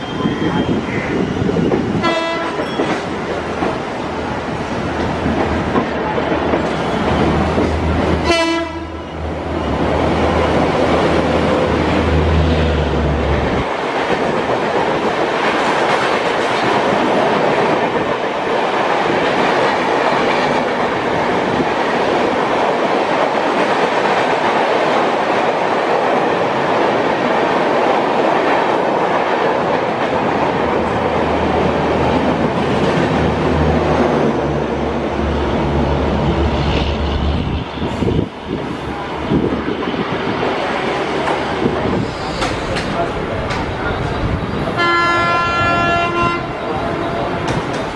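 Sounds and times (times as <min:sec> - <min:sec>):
train wheels rushing on rails: 0:00.0 - 0:47.9.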